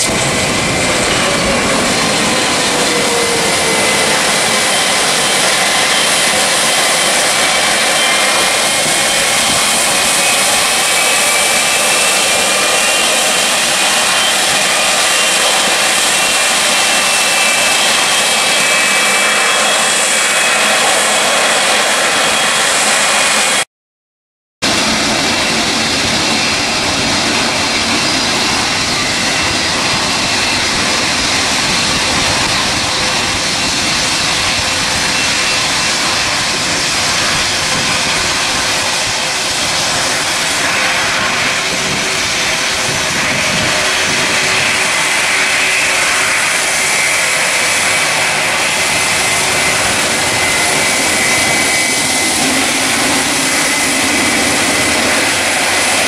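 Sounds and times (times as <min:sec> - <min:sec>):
jet engines whine and rush: 0:00.0 - 0:23.7, 0:24.6 - 0:56.0.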